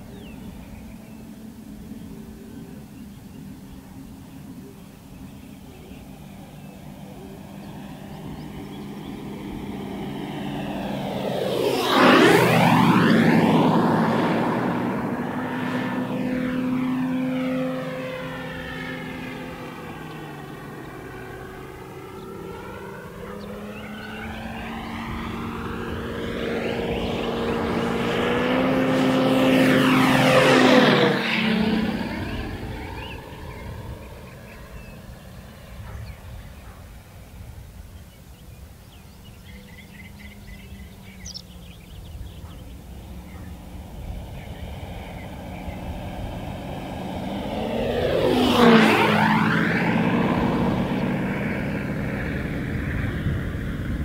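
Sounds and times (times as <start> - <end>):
model plane engine and propeller: 0.0 - 54.0.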